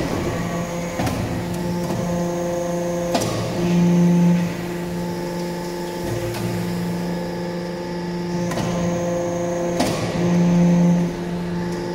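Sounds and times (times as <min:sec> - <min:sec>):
hydraulic press motor humming: 0:00.0 - 0:11.9.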